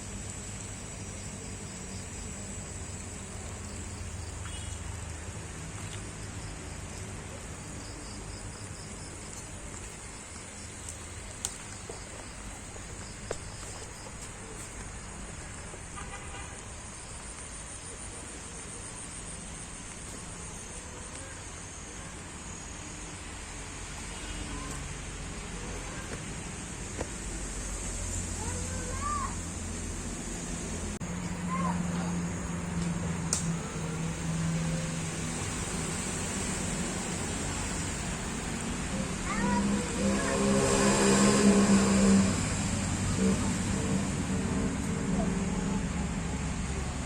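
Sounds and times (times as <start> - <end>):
insects chirping: 0.0 - 41.7.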